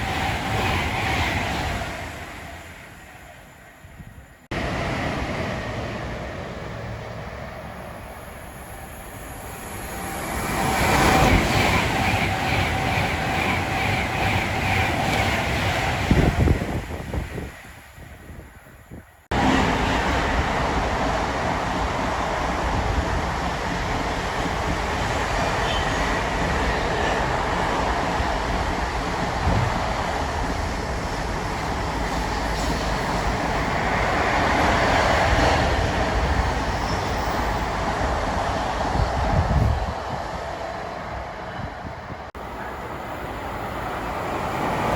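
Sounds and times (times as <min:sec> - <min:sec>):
train running on rails: 0:00.0 - 0:44.9.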